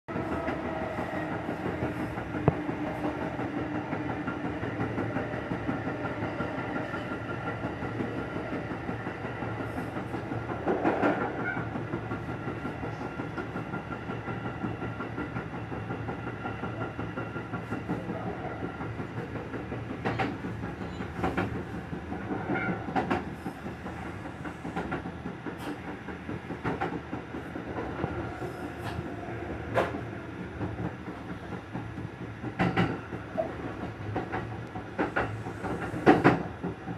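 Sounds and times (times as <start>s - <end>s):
train running noise with whine: 0.1s - 36.9s.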